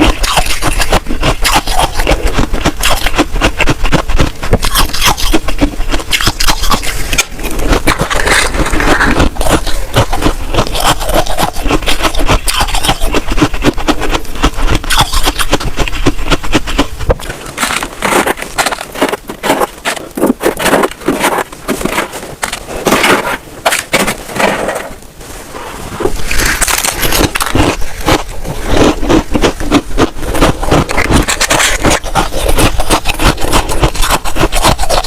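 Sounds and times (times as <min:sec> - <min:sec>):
freezer frost crunching and scraping: 0:00.0 - 0:35.0.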